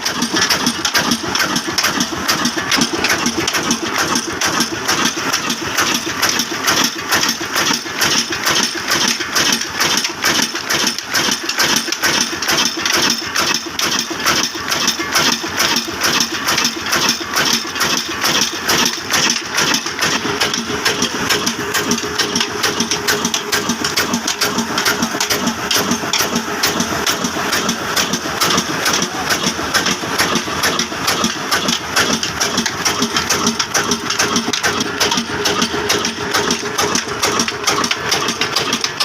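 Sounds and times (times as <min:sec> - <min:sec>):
diesel engine knocking: 0:00.0 - 0:39.0.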